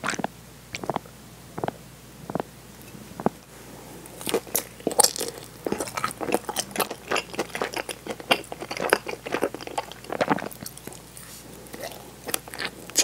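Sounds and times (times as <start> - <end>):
person chewing crunchy food: 0.0 - 2.5, 4.1 - 13.0.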